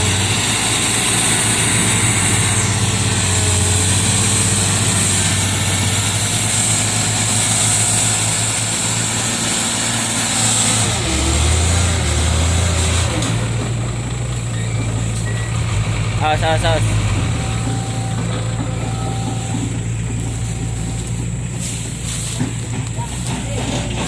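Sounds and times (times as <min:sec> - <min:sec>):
lift truck engine running: 0:00.0 - 0:24.0.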